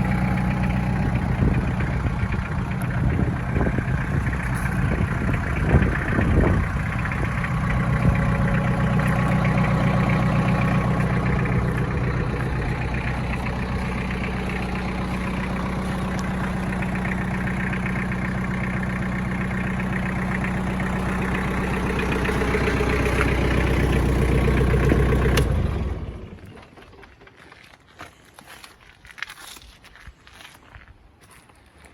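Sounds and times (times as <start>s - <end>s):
tractor diesel engine running: 0.0s - 27.5s.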